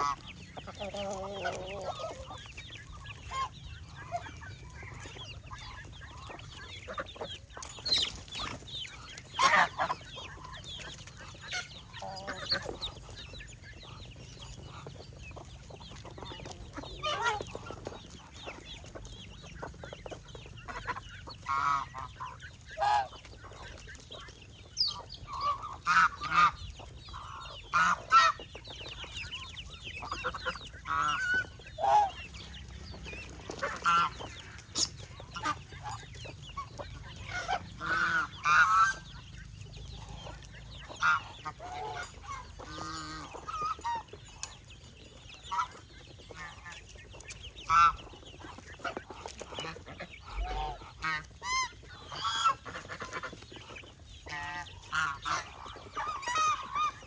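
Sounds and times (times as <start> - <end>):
geese honking: 0.0 - 15.1, 15.9 - 44.6, 45.4 - 57.0
poultry calls: 0.0 - 57.0.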